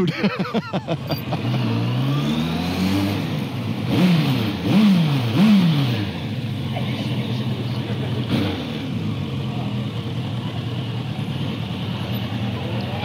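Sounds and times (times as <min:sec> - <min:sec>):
motorcycle engine accelerating: 0:01.0 - 0:13.0.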